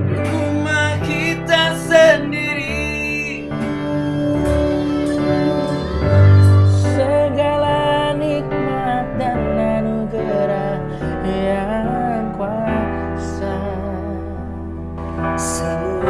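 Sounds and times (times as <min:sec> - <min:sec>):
acoustic guitar: 0:00.0 - 0:13.4
person singing: 0:00.0 - 0:16.0.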